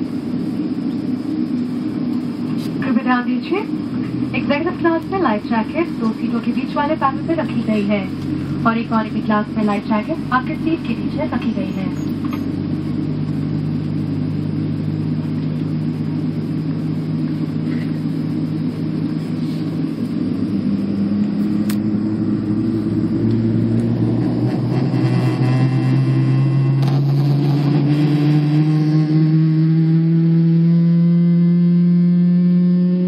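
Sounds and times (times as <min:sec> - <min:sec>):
jet engine spooling up: 0:00.0 - 0:30.8
aircraft cabin drone: 0:00.0 - 0:33.0.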